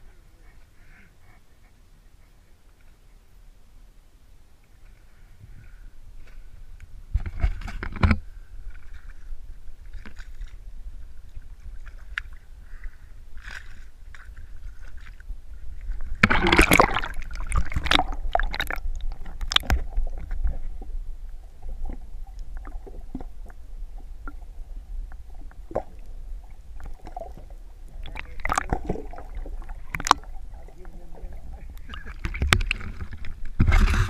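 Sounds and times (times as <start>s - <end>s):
muffled underwater rumble: 4.8s - 34.0s.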